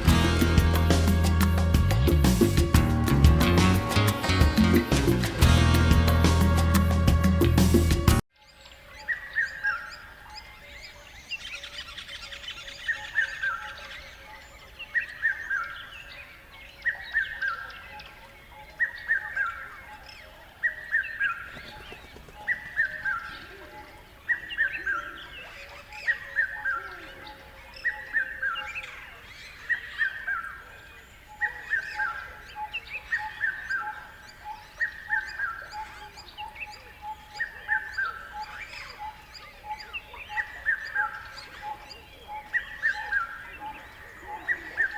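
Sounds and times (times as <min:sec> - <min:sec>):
faint bird chirps: 0:08.4 - 0:44.9.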